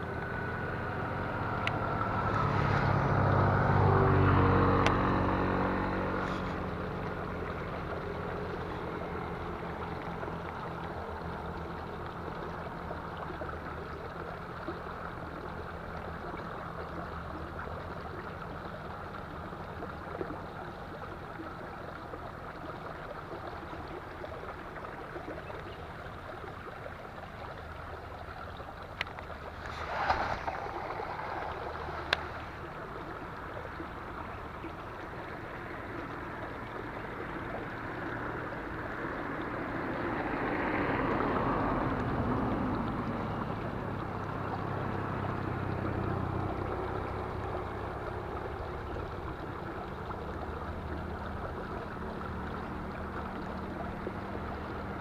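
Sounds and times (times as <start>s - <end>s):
engine passing by: 0.0s - 20.6s, 29.3s - 55.0s.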